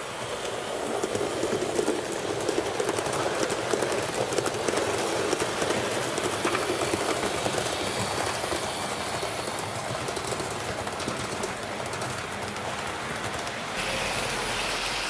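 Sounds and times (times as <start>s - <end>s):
model train rolling whir: 0.0s - 15.0s.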